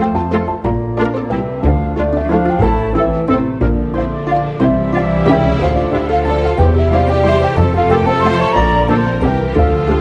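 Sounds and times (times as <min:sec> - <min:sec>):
melodic instrumental music: 0:00.0 - 0:10.0.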